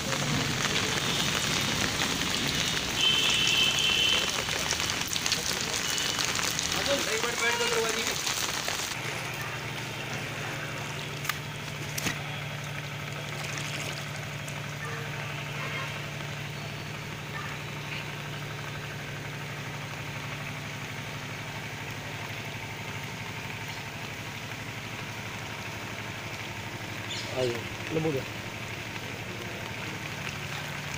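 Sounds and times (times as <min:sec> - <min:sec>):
engine idling: 0:00.0 - 0:30.9.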